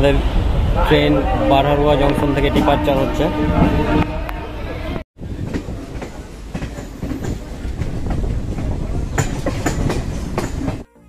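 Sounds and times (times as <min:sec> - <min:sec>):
train wheels rumbling: 0:00.0 - 0:10.9
rail joints clickety-clack: 0:01.7 - 0:10.9.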